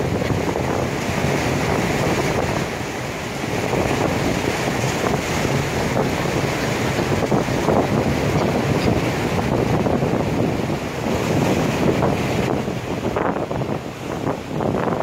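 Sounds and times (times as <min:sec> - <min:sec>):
water rushing from ferry: 0:00.0 - 0:15.0
wind buffeting microphone: 0:00.0 - 0:15.0.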